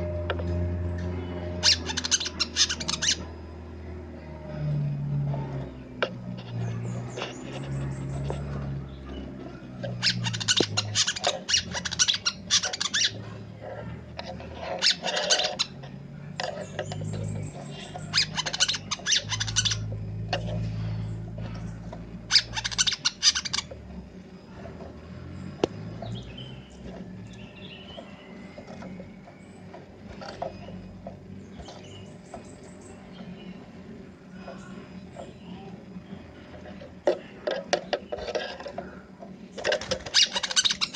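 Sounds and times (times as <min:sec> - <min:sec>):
steady low hum: 0:00.0 - 0:40.9
bird twittering song: 0:00.9 - 0:04.2, 0:04.9 - 0:40.9.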